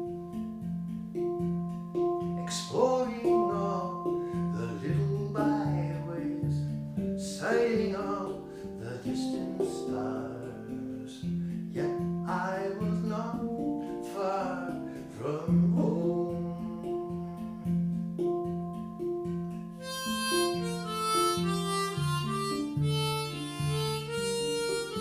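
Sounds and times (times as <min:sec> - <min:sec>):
acoustic guitar folk song: 0:00.0 - 0:25.0.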